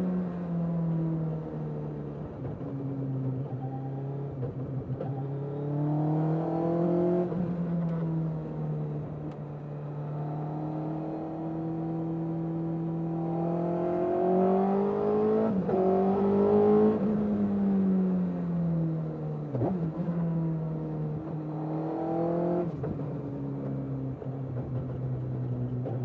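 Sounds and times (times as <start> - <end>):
motorcycle engine accelerating: 0.2 - 26.0.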